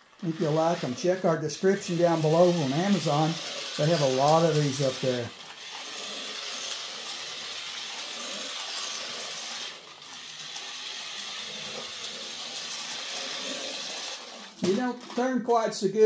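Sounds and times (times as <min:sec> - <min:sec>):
toy truck electric motor whirring: 0:00.0 - 0:15.4.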